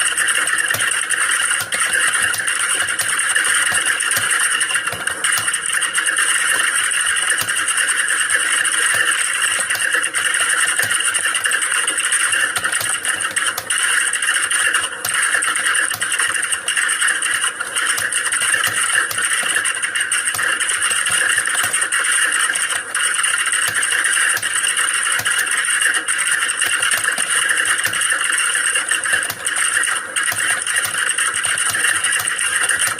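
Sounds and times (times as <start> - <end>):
fast keyboard typing: 0.0 - 32.9.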